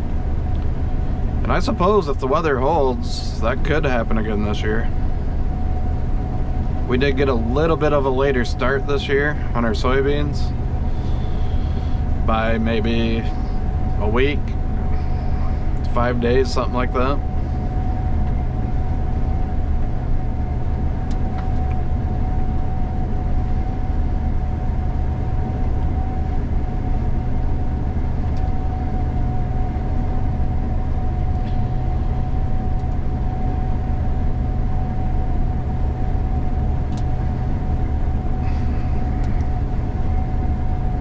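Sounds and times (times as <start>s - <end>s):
combine harvester low drone: 0.0s - 41.0s
thin steady whine: 0.0s - 41.0s.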